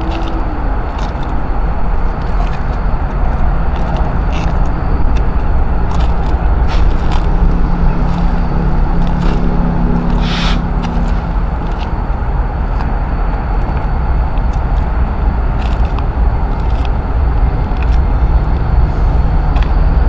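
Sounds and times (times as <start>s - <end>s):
passing vehicles rumbling: 0.0s - 20.0s.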